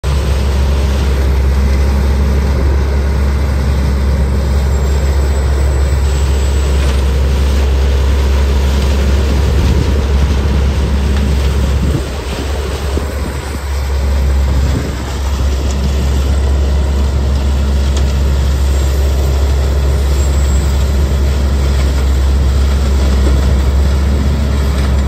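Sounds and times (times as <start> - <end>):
leaf vacuum loud drone: 0.0 - 25.0
hose sucking dry leaves: 4.0 - 25.0.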